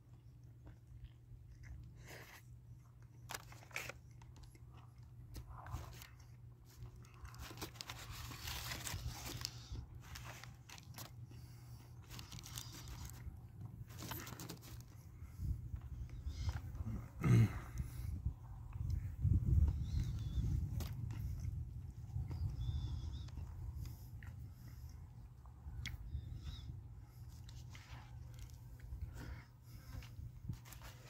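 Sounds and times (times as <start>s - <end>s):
chewing crunchy food: 0.0s - 26.2s.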